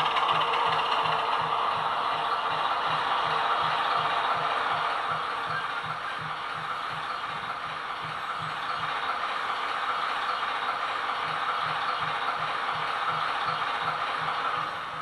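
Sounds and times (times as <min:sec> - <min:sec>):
model diesel engine beat: 0:00.0 - 0:15.0.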